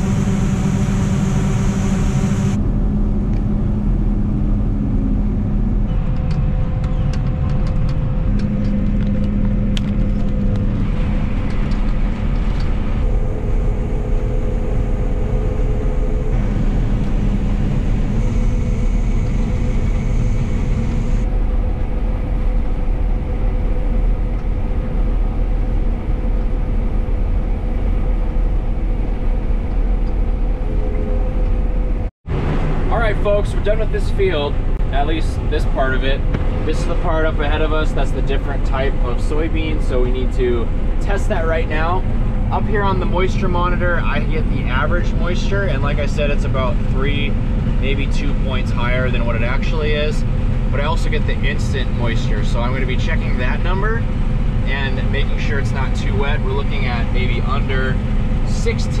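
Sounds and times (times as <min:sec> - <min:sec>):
combine engine and machinery hum: 0:00.0 - 0:59.0.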